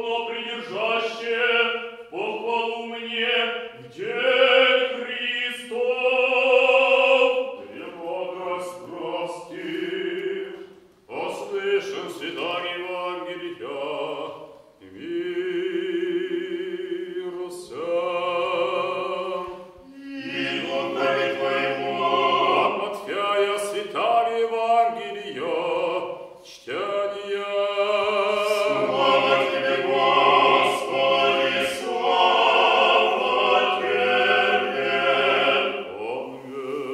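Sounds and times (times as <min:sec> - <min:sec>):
choir chanting a cappella: 0:00.0 - 0:36.9.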